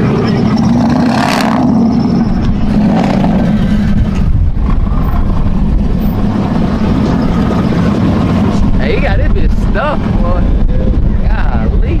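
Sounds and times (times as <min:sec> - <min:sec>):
road noise: 0:00.0 - 0:12.0
vehicle engine rumbling: 0:00.0 - 0:12.0.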